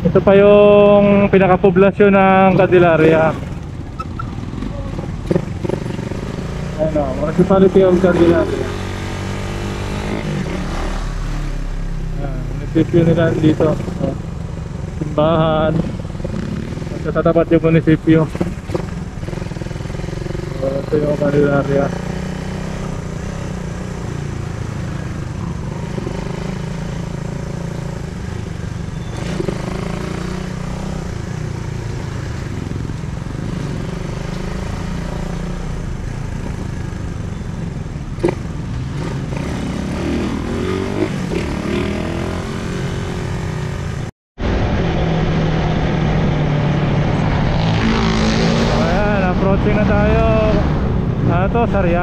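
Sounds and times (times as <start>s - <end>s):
wind and road noise: 0.0s - 52.0s
motorcycle engine running: 0.3s - 44.1s.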